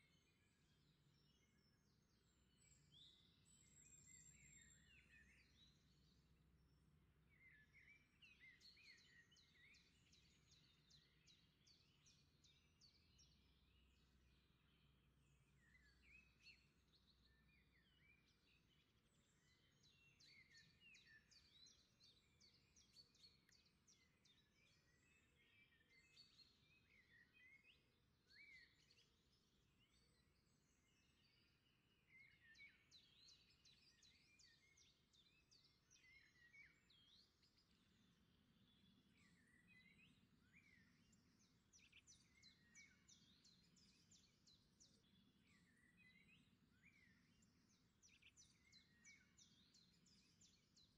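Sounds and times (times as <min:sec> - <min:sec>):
faint birdsong: 0:00.0 - 0:50.9.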